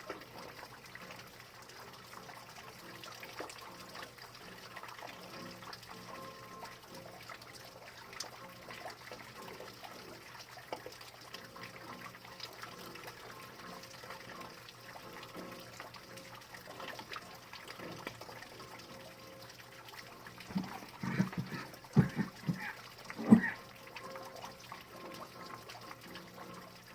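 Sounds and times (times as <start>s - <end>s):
rain dripping and trickling: 0.0s - 26.9s.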